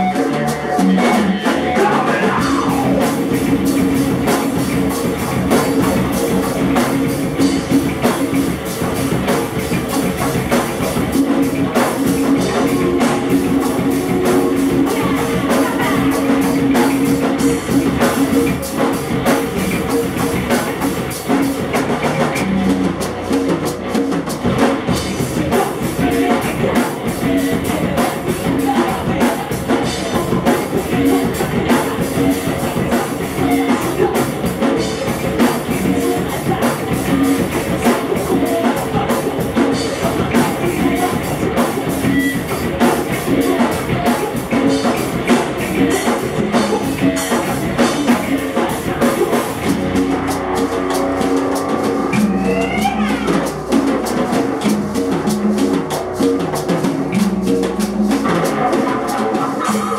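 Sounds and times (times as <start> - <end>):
person singing: 0.0 - 23.4, 24.7 - 59.9
bass guitar: 0.0 - 59.9
congas: 0.0 - 59.9
distorted electric guitar: 0.0 - 59.9
drum kit: 0.0 - 59.9.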